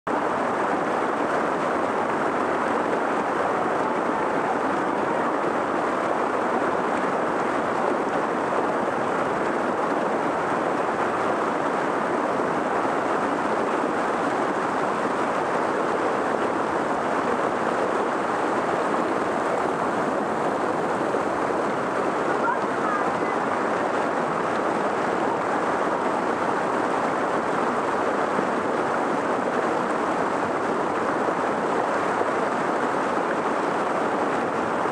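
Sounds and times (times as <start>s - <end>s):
creek water rushing over rocks: 0.1s - 34.9s.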